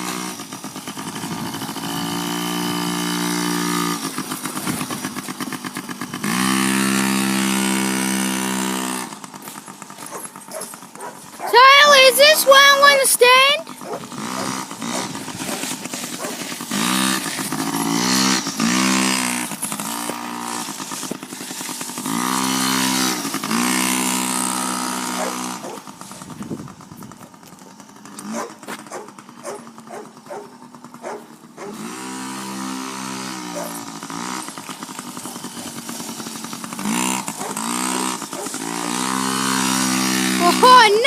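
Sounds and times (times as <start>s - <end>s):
small motorbike engine: 0.0s - 41.0s.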